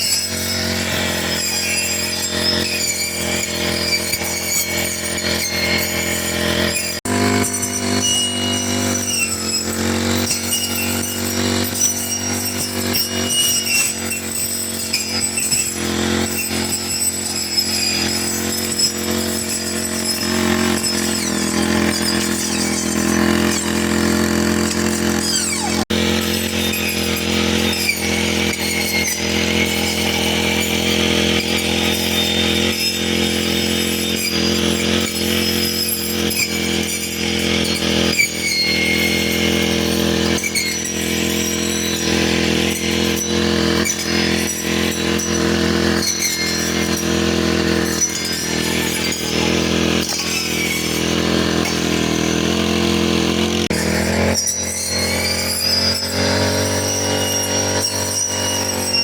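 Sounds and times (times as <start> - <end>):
brush cutter engine running: 0.0 - 59.0.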